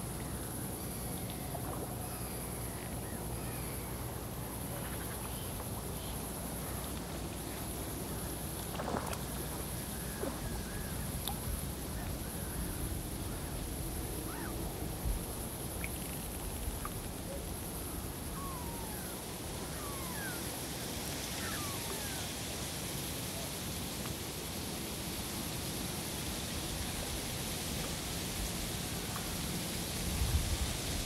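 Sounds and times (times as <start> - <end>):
field recording hiss: 0.0 - 31.0.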